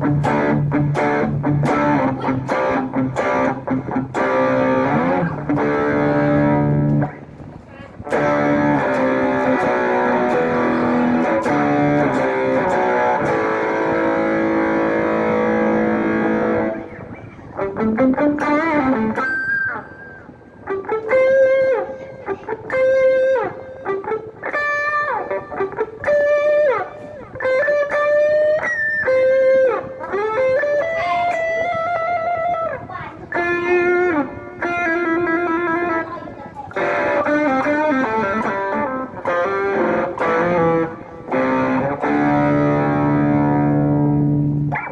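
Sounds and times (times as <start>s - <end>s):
distorted electric guitar: 0.0s - 44.9s.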